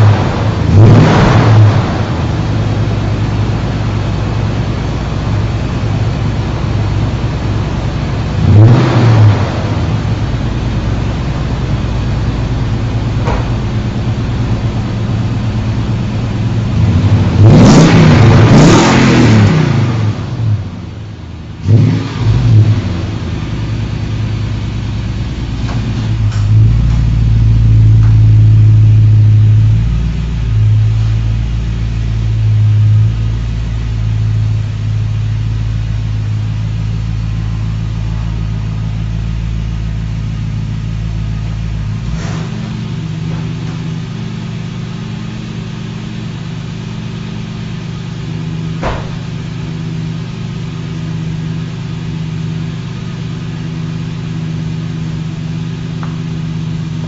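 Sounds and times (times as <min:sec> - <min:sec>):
truck engine idling and revving: 0:00.0 - 0:57.0.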